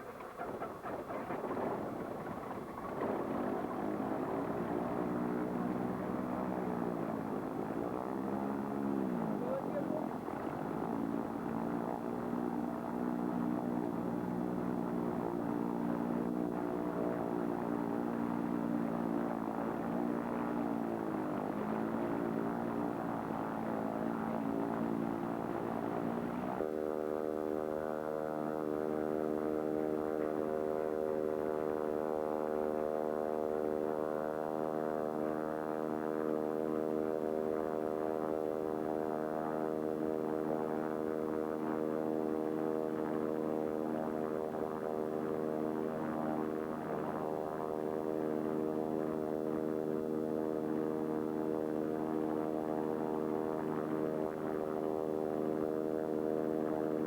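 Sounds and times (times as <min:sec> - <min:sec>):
propeller aircraft engine running: 0:00.0 - 0:57.0.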